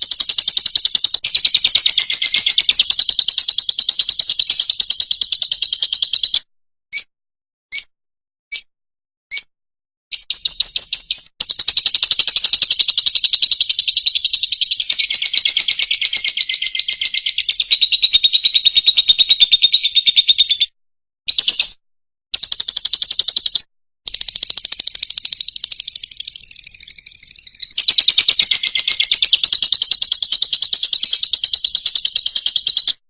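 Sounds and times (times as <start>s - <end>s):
bird chirping and trilling: 0.0s - 7.1s, 10.1s - 20.7s, 21.3s - 21.8s, 22.4s - 33.0s.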